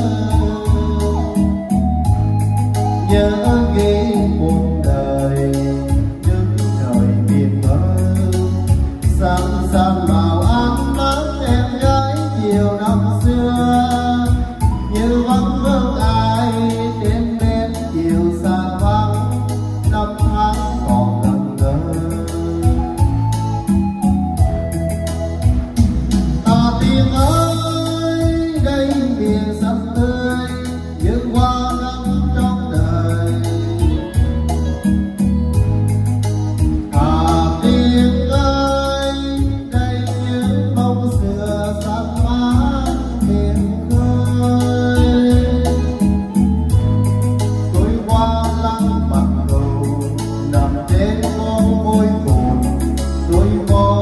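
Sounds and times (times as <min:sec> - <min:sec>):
man singing into microphone: 0:00.0 - 0:24.7, 0:25.4 - 0:35.8, 0:36.6 - 0:54.0
backing track with heavy bass: 0:00.0 - 0:54.0.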